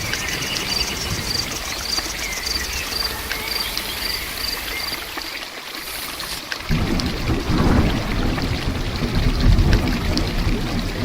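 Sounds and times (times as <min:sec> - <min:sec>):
deep thunder rumble: 0:00.0 - 0:05.2, 0:06.7 - 0:11.0
heavy rain: 0:00.0 - 0:11.0.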